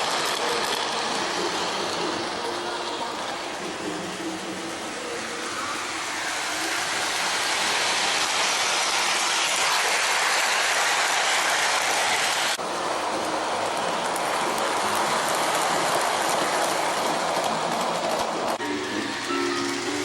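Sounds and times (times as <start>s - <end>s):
model train wheels on rails: 0.0s - 20.0s.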